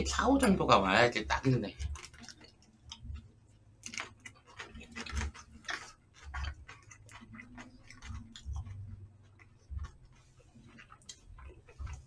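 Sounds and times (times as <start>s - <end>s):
chewing: 1.7s - 12.0s.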